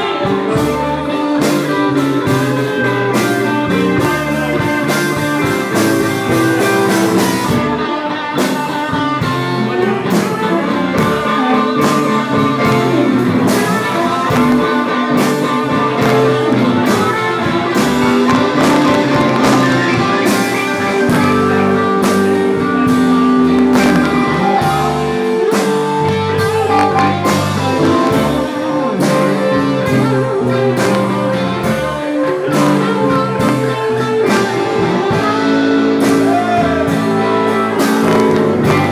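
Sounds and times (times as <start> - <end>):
bass: 0.0 - 38.9
drum kit steady beat: 0.0 - 38.9
guitar: 0.0 - 38.9
keyboard: 0.0 - 38.9.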